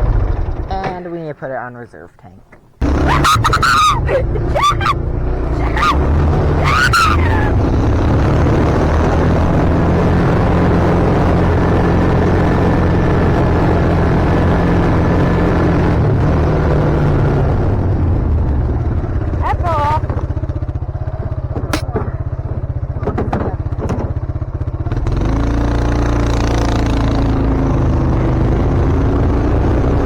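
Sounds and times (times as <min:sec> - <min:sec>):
atv engine running: 0:00.0 - 0:01.7, 0:02.8 - 0:30.0.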